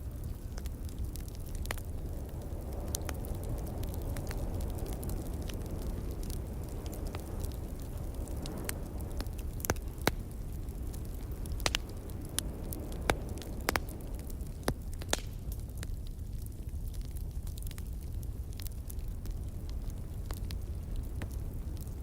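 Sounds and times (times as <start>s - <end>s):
log fire crackling and popping: 0.0s - 22.0s
low wind rumble: 0.0s - 22.0s.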